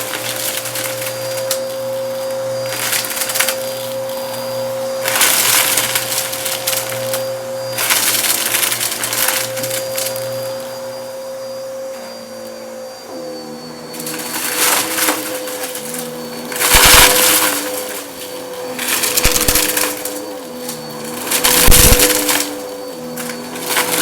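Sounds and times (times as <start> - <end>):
debris crunching in vacuum: 0.0 - 12.3, 12.9 - 24.0
vacuum cleaner motor whine: 0.0 - 24.0.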